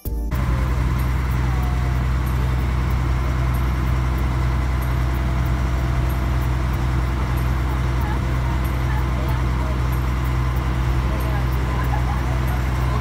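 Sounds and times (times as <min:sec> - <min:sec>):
ferry engine droning: 0:00.3 - 0:13.0.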